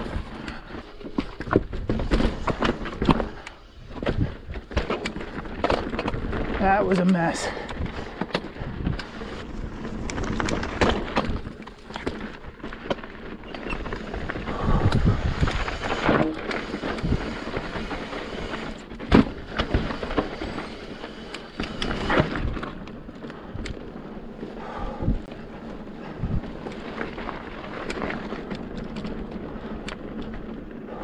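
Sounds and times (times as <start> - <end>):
bike rattling and knocking: 0.0 - 31.0
tyre and wind noise: 0.0 - 31.0.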